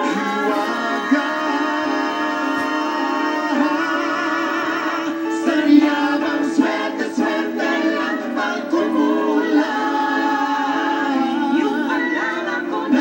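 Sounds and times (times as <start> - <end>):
group singing in harmony: 0.0 - 13.0.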